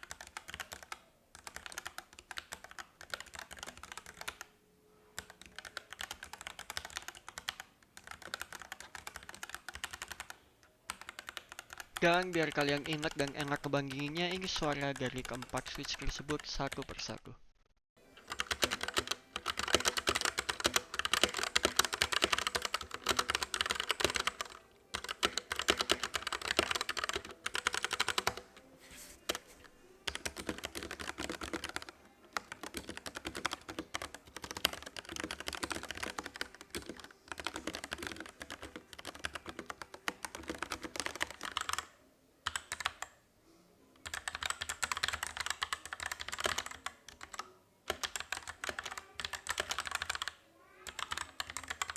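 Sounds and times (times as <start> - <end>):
mechanical keyboard typing: 0.0 - 4.5, 5.2 - 17.2, 18.3 - 28.5, 30.0 - 43.1, 44.0 - 51.9.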